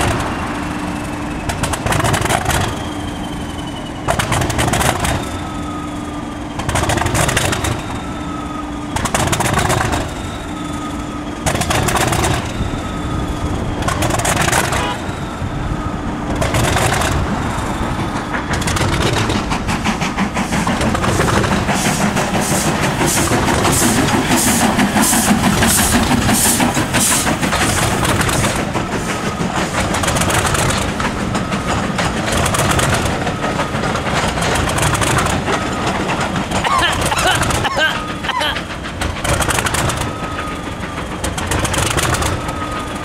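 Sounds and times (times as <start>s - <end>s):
diesel locomotive engine running: 0.0s - 43.0s.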